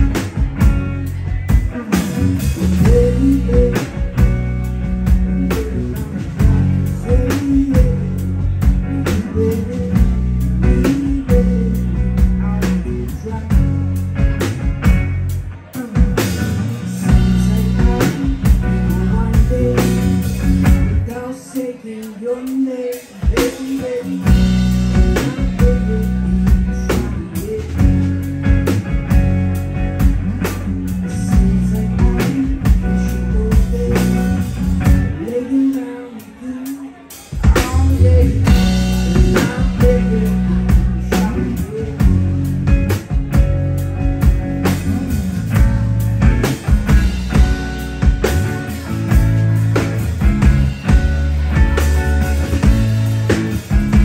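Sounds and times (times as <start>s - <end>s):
bass guitar: 0.0s - 54.0s
drum kit: 0.0s - 54.0s
electric guitar: 0.0s - 54.0s
person singing: 0.0s - 54.0s.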